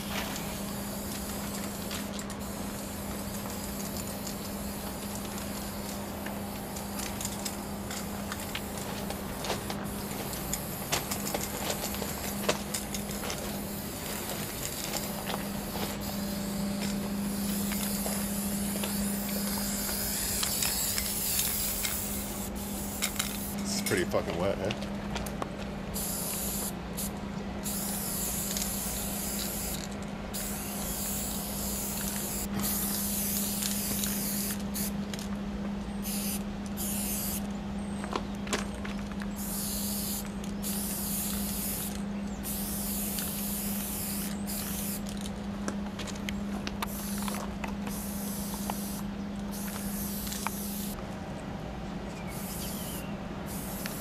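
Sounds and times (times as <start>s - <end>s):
spray paint can hissing: 0.0s - 23.6s, 26.0s - 34.9s, 36.0s - 37.4s, 39.4s - 45.1s, 46.8s - 51.0s, 52.3s - 54.0s
low hum: 0.0s - 53.4s.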